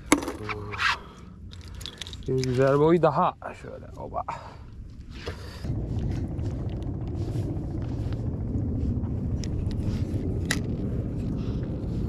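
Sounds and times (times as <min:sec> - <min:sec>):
wind rumbling on microphone: 0:00.2 - 0:12.0.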